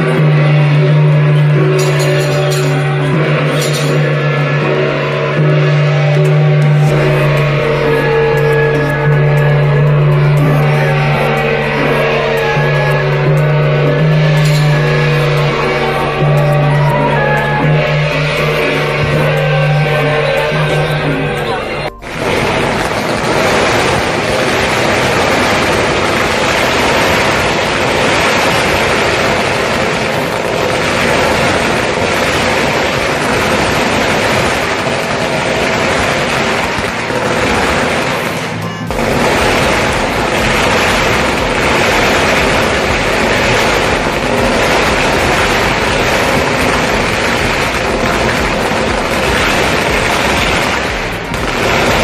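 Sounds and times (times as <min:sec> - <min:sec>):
firecrackers and fireworks banging: 0:00.0 - 0:52.0.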